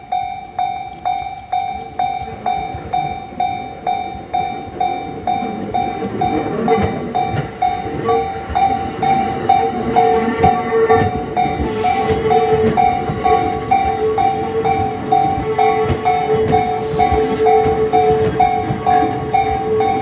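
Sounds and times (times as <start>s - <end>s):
level crossing bell ringing: 0.0s - 20.0s
low warning tone: 0.0s - 20.0s
train rumble and wheel thumps: 0.0s - 20.0s.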